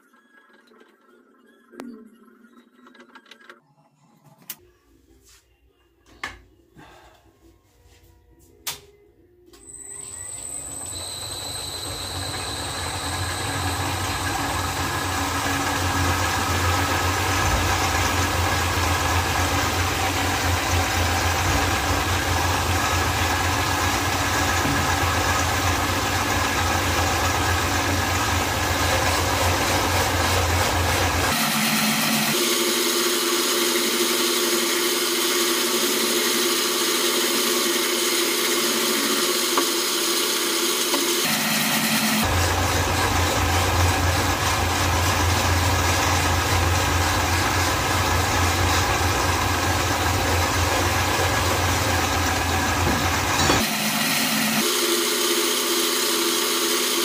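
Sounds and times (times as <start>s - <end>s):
lathe motor humming: 10.0s - 57.0s
file rasping spinning wood: 10.4s - 57.0s.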